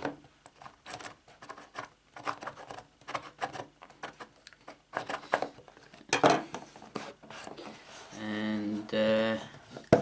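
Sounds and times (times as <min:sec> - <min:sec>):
cardboard and plastic scratching: 0:00.6 - 0:08.8.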